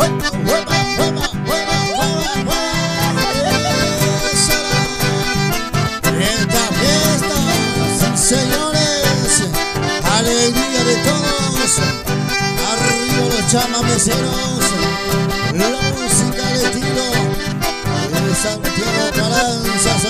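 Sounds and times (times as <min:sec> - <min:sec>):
accordion melody: 0:00.0 - 0:20.0
strummed acoustic guitar: 0:00.0 - 0:20.0.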